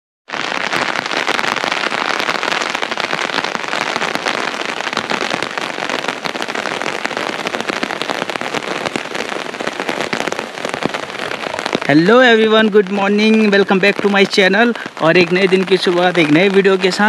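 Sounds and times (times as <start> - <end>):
rain falling: 0.3 - 17.0.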